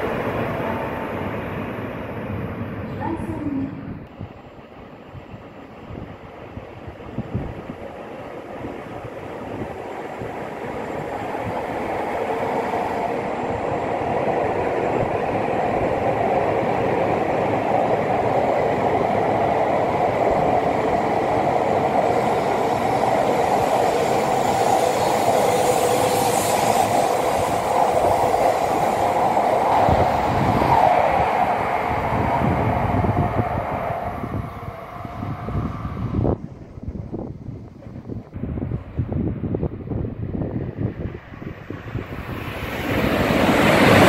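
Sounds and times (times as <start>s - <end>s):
high-speed train running past: 0.0s - 44.0s.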